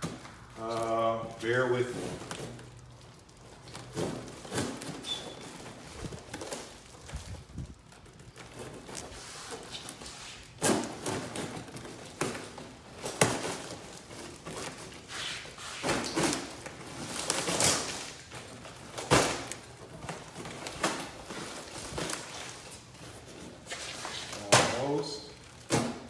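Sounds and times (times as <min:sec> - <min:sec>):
tape ripping and plastic crinkling: 0:00.0 - 0:26.0.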